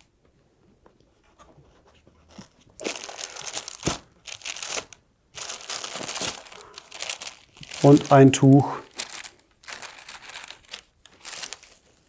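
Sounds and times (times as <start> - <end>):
packaging crinkling and rustling: 2.3 - 12.0.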